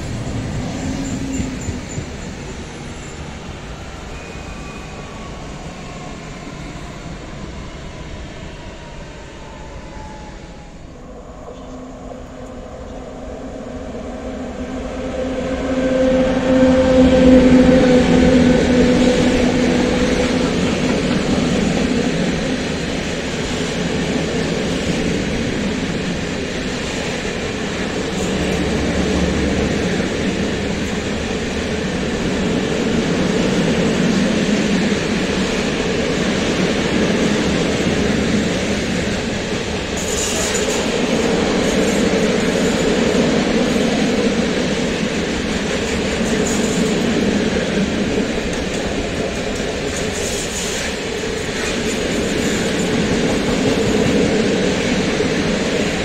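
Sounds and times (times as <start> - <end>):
departing electric train whine: 0.0 - 56.0
electric locomotive humming: 0.0 - 56.0.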